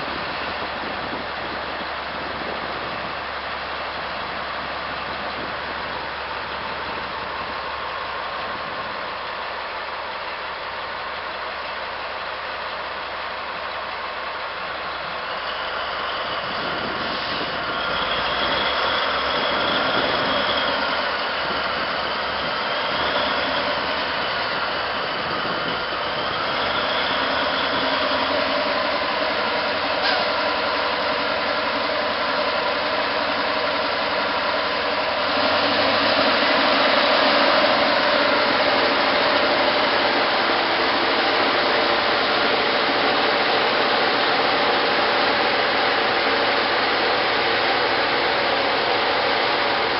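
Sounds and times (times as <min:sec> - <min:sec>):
diesel truck engine under load: 0:00.0 - 0:49.9.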